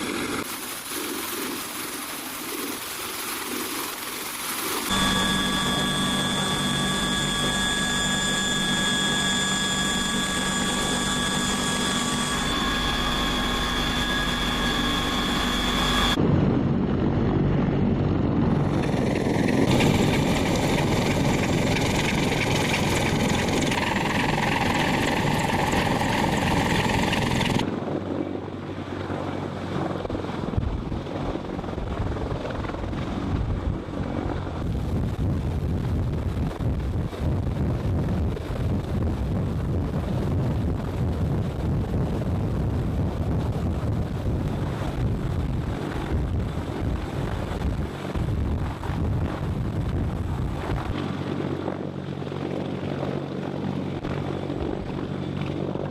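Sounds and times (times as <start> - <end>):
helicopter rotor and engine: 0.0 - 55.9
helicopter turbine whine: 0.0 - 55.9.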